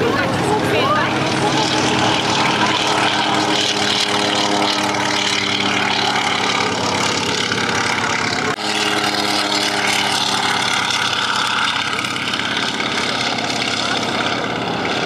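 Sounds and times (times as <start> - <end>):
propeller plane engine passing: 0.0 - 15.0.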